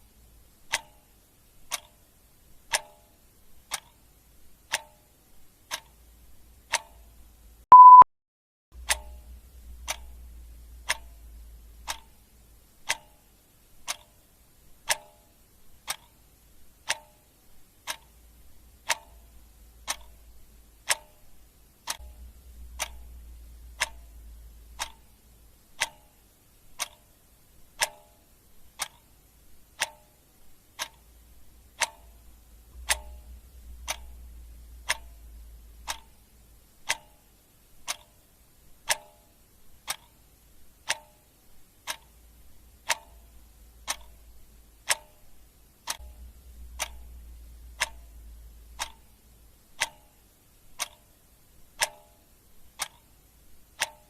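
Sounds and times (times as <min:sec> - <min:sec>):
clock ticking: 0:00.0 - 0:08.0, 0:08.8 - 0:54.0.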